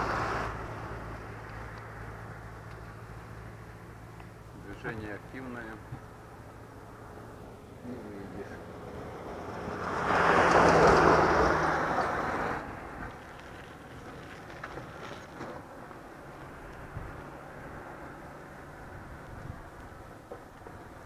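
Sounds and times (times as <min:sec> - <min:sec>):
vehicle passing by: 0:00.0 - 0:20.2.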